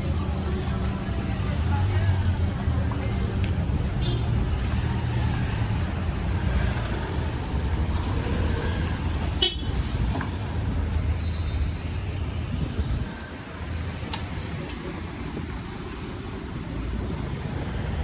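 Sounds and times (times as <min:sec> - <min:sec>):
vehicle engines rumbling: 0:00.0 - 0:18.0.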